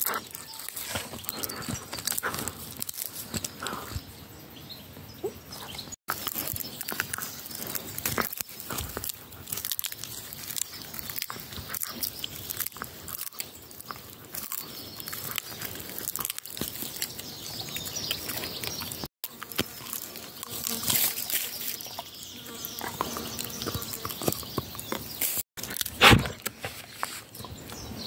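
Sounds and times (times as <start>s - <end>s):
dog gnawing wooden stick: 0.0s - 4.0s, 6.1s - 27.9s.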